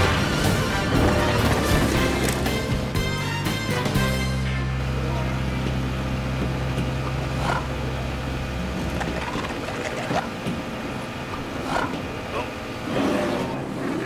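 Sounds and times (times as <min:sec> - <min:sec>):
outboard engine humming: 0:00.0 - 0:14.0.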